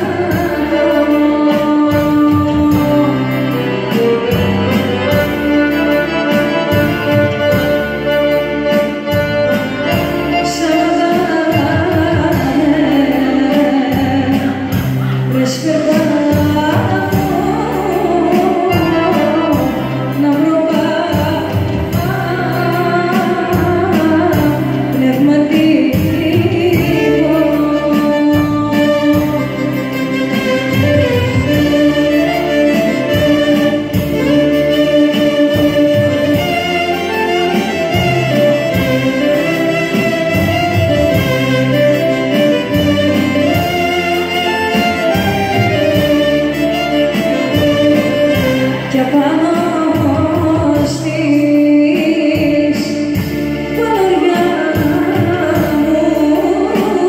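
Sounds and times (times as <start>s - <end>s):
electronic keyboard playing: 0.0s - 57.0s
woman singing into microphone: 0.0s - 57.0s.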